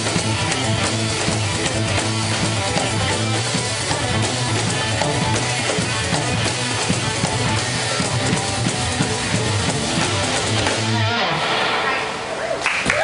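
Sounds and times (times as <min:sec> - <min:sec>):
rock-funk band playing: 0:00.0 - 0:12.4.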